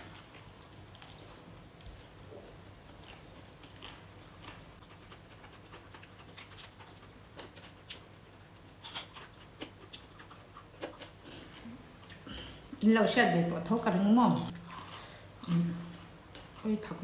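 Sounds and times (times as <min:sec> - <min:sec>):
soft chewing: 0:00.0 - 0:12.8, 0:14.4 - 0:17.0.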